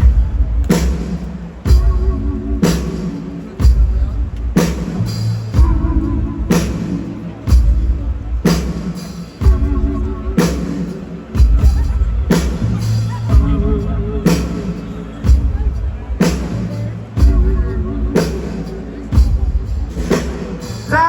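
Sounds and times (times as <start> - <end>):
heavy drum and bass hits: 0.0 - 20.9
live rock band playing: 0.0 - 21.0.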